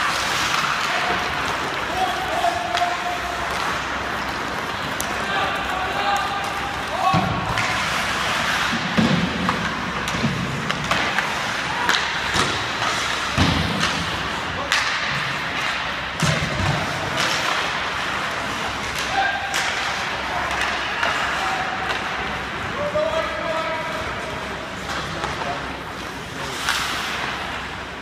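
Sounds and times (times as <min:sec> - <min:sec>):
hockey stick and puck clacks: 0:00.0 - 0:23.1, 0:23.9 - 0:28.0.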